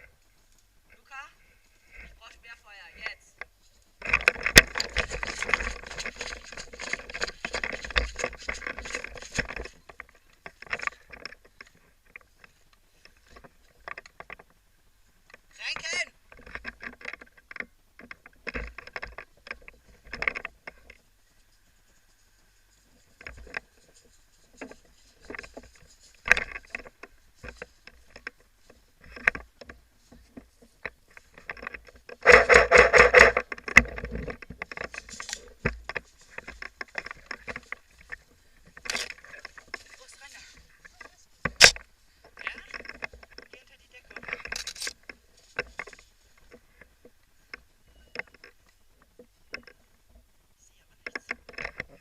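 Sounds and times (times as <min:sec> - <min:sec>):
clicks and rustling of movement: 0:00.0 - 0:52.0.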